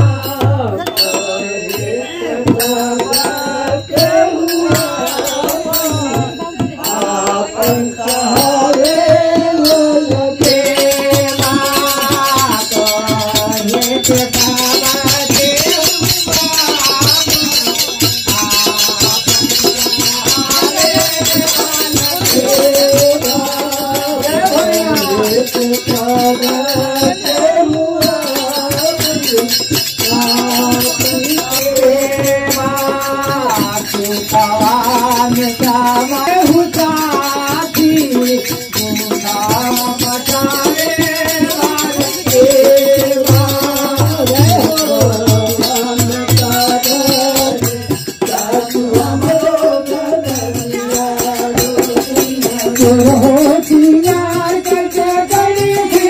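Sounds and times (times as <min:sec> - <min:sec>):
rattling percussion: 0:00.0 - 0:56.0
women singing devotional song: 0:00.0 - 0:56.0.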